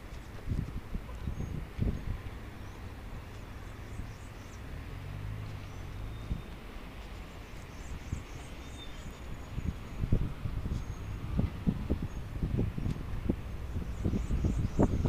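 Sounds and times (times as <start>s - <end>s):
low traffic rumble: 0.0s - 15.0s
vehicle engine hum: 0.0s - 15.0s.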